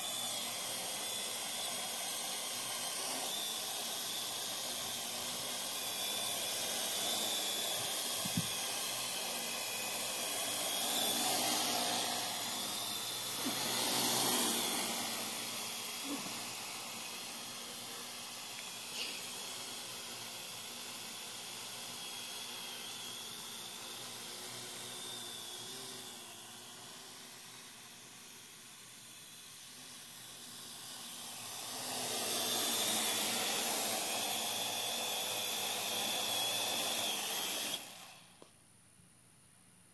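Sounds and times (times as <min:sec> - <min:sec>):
drone rotors whirring: 0:00.0 - 0:38.5.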